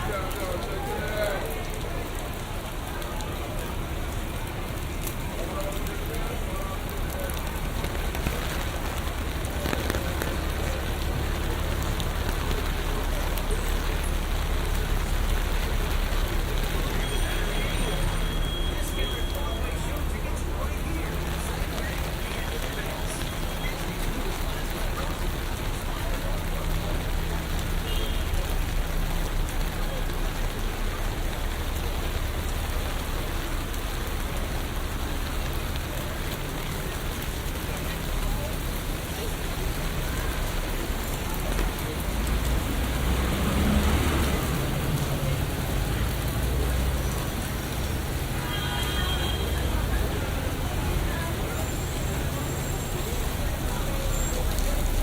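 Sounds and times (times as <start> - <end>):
city traffic rumble: 0.0 - 55.0
rain falling on street: 0.0 - 55.0.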